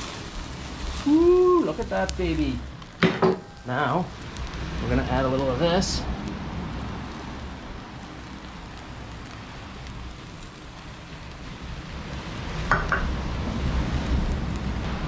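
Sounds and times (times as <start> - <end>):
fat crackling on hot coals: 0.0 - 15.0
steak sizzling on a grill: 0.0 - 15.0.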